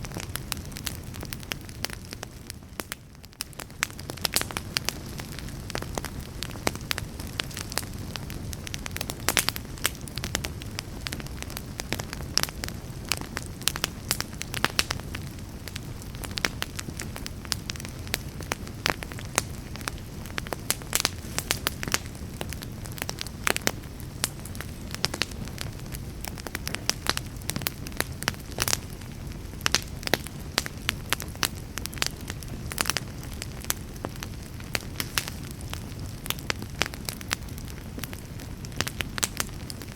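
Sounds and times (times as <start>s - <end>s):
hiss of fireplace flames: 0.0s - 39.9s
logs crackling and popping: 0.0s - 39.9s.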